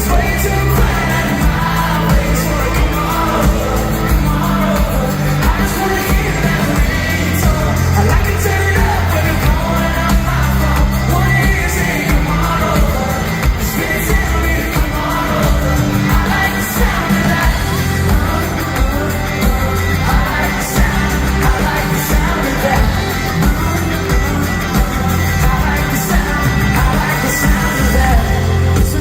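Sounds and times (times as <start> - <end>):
bass guitar: 0.0 - 29.0
drums: 0.0 - 29.0
guitars: 0.0 - 29.0
man singing lead vocal: 0.0 - 29.0.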